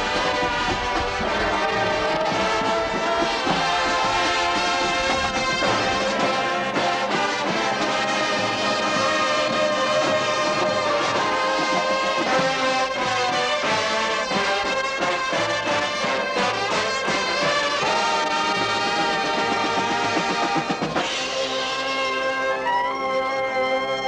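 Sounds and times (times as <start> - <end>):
brass chords: 0.0 - 24.0
drum and bugle corps playing: 0.0 - 24.0.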